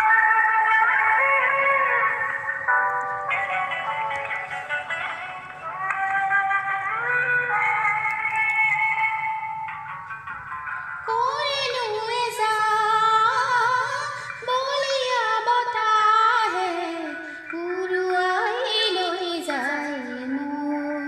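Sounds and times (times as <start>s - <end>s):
woman singing: 0.0s - 2.5s, 4.8s - 9.4s, 11.1s - 21.0s
instrumental backing track: 0.0s - 21.0s.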